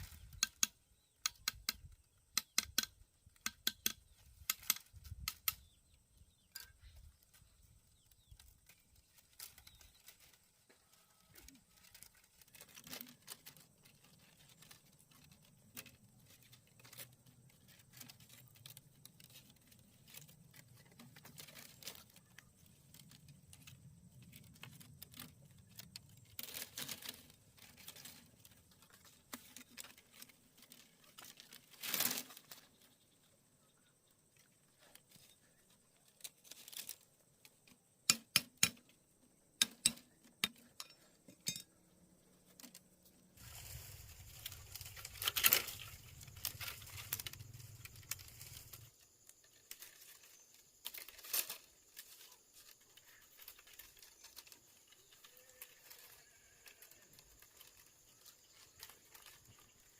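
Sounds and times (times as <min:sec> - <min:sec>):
bamboo strips clicking and rustling: 0:00.0 - 0:33.0, 0:34.1 - 0:59.9.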